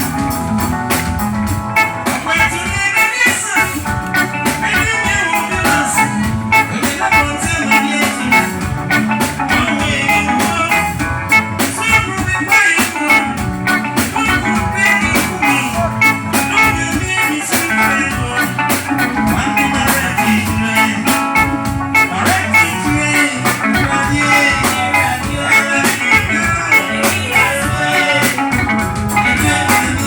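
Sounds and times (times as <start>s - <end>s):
live band with guitar and drums: 0.0s - 30.0s.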